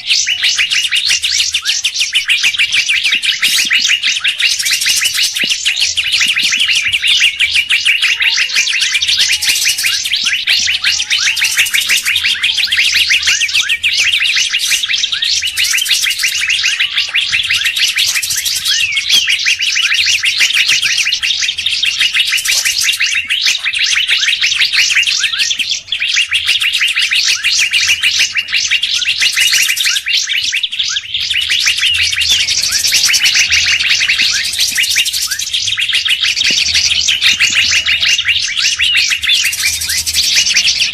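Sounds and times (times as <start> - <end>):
songbirds chattering: 0.0 - 40.9.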